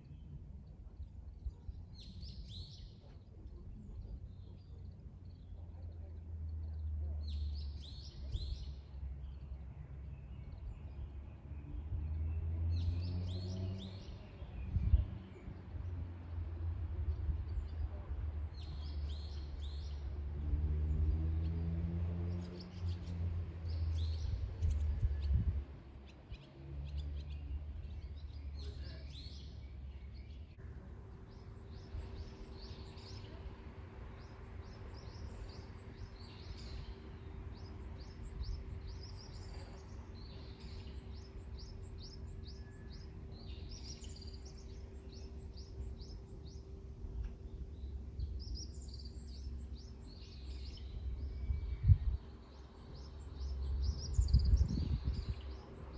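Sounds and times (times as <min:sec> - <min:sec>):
wild birds chirping and singing: 0:00.0 - 0:55.9.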